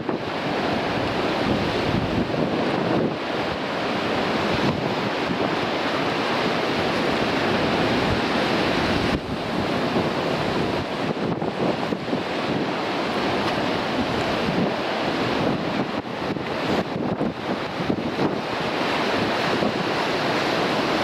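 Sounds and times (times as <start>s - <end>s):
surf breaking over rocks: 0.0s - 21.0s
wind buffeting microphone: 0.0s - 21.0s.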